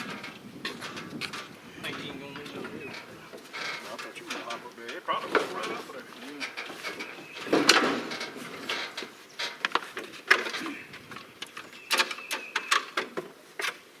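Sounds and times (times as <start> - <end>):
metal clicks and clanks: 0.0 - 13.8.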